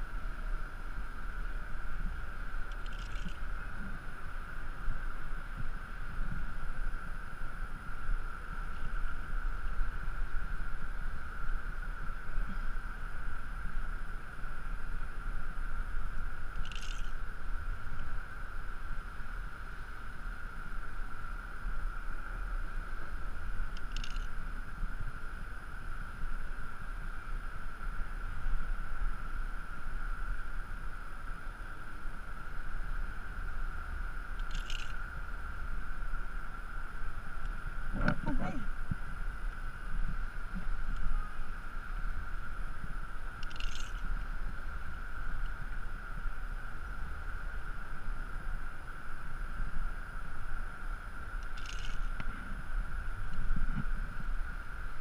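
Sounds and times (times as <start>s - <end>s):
steady whine: 0.0s - 55.0s.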